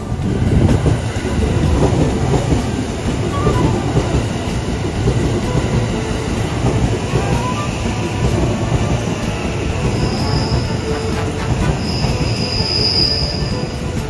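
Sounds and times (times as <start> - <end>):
electric train rumbling on rails: 0.0 - 14.0.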